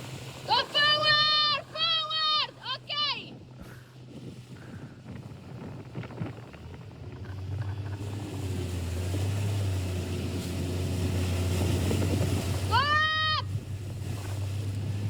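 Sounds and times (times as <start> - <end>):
motorboat engine running: 0.0 - 15.0
water noise: 0.0 - 15.0
wind: 0.0 - 15.0.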